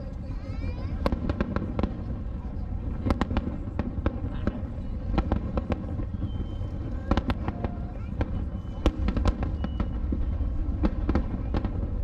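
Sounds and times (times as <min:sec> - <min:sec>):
low rumble of fireworks: 0:00.0 - 0:12.0
firework bangs: 0:00.8 - 0:12.0.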